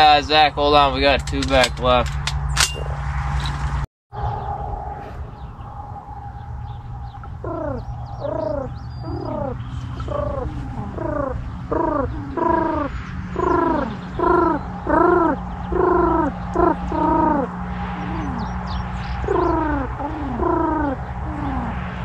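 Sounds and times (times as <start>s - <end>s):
low steady hum: 2.6s - 22.0s.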